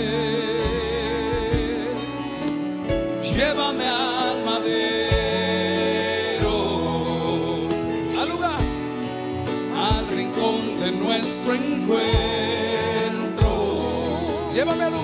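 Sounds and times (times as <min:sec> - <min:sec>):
band playing held chords: 0:00.0 - 0:15.0
person singing: 0:00.0 - 0:15.0.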